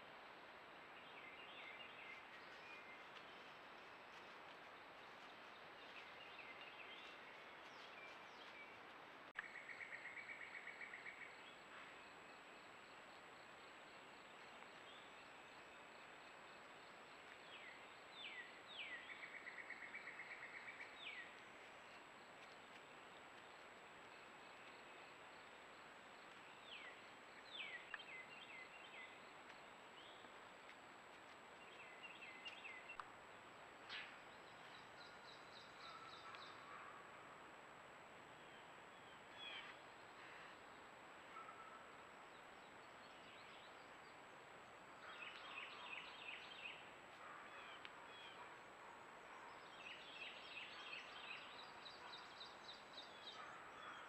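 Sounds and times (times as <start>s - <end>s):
faint steady hiss: 0.0s - 53.8s
songbirds trilling and chirping: 0.9s - 12.9s, 13.6s - 37.2s, 38.3s - 54.0s.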